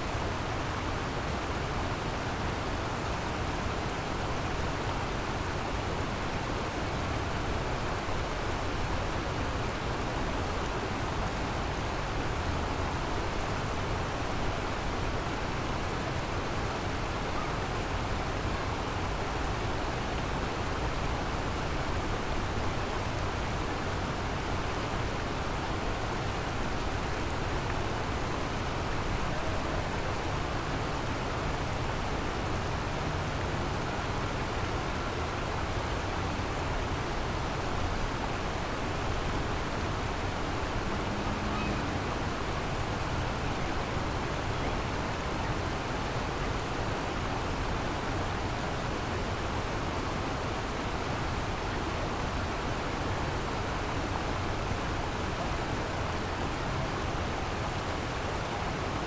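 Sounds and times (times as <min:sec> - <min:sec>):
river water rushing over riverbed: 0:00.0 - 0:59.0.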